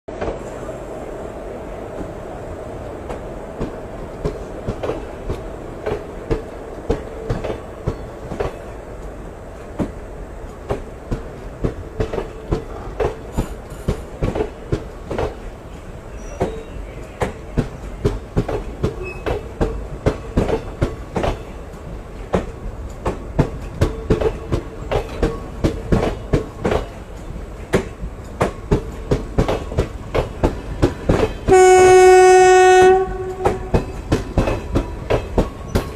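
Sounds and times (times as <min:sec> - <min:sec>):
train coach rumbling: 0:00.1 - 0:35.9
wheels clacking on rail joints: 0:03.0 - 0:35.9.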